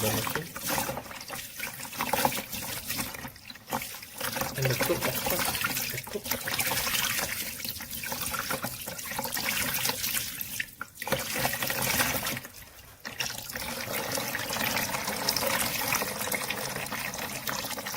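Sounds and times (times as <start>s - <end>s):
tap water splashing into sink: 0.0s - 17.9s.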